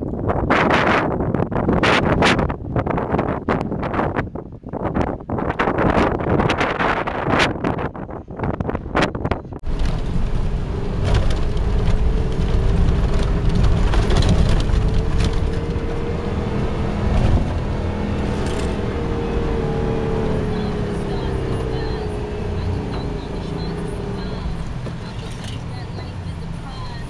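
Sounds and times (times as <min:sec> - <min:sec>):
engine and drivetrain rumble: 0:00.0 - 0:27.0
wind gusting on microphone: 0:00.0 - 0:27.0.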